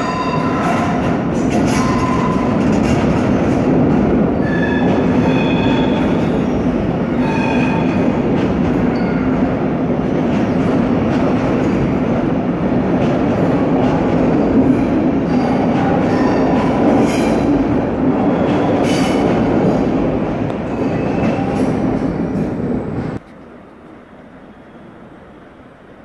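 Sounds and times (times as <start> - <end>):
train rumbling close by: 0.0 - 26.0.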